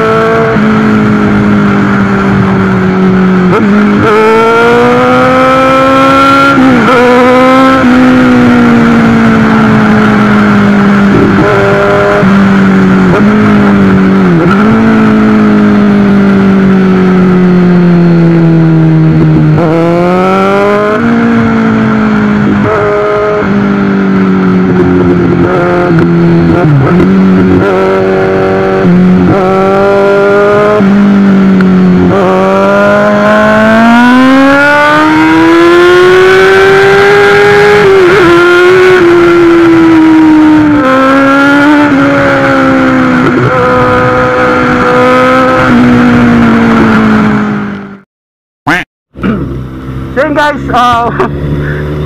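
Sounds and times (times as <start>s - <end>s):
motorcycle engine accelerating: 0.0s - 48.0s, 48.7s - 52.0s.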